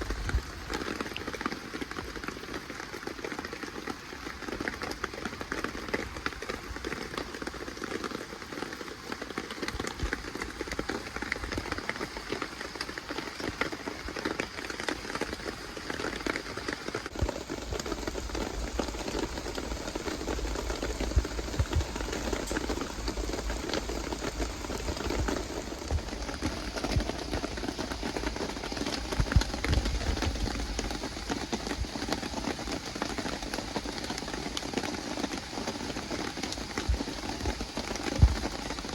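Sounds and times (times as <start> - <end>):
louder raindrop taps and bumps: 0.0 - 38.9
steady rain falling: 0.0 - 38.9.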